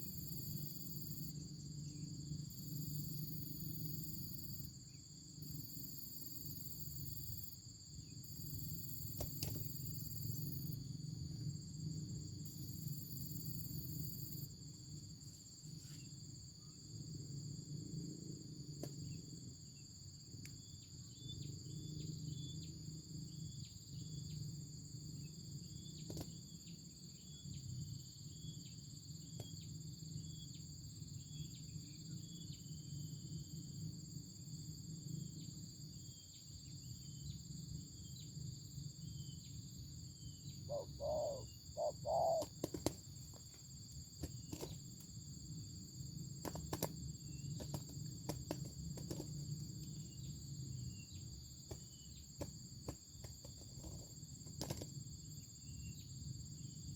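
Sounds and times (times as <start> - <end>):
insect chorus: 0.0 - 56.9.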